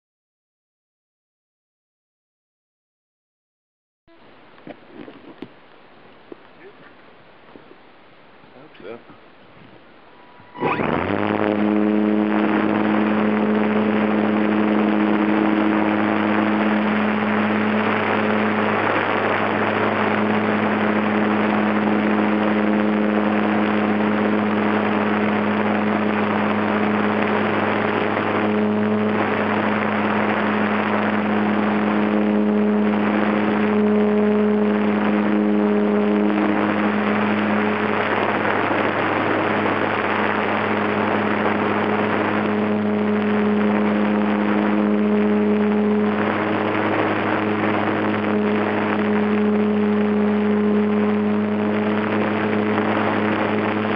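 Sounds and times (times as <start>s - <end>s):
electric motor and propeller hum: 8.8s - 53.9s.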